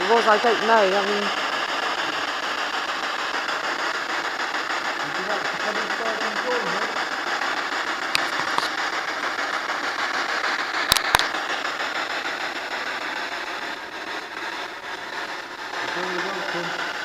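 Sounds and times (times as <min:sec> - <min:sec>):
radio static hiss: 0:00.0 - 0:17.0
sharp clicks: 0:00.3 - 0:17.0.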